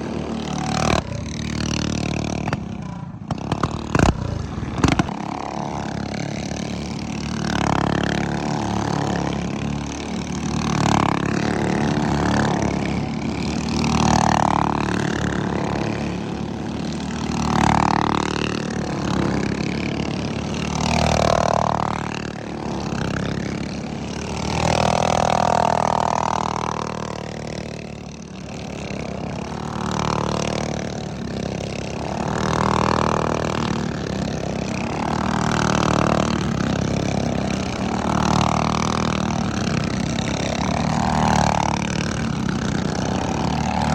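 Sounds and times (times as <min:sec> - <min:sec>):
minibike engines revving: 0:00.0 - 0:43.9.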